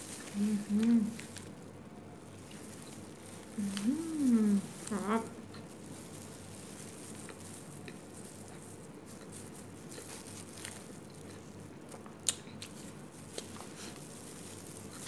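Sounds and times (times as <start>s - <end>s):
paper wrapper crackling: 0.0s - 11.5s, 12.7s - 15.0s
plastic gloves crackling: 0.0s - 15.0s
chewing: 2.4s - 15.0s.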